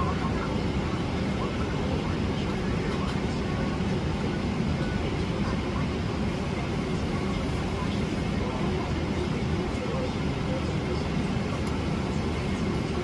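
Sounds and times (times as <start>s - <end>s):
airliner cabin rumble and air rush: 0.0s - 13.0s.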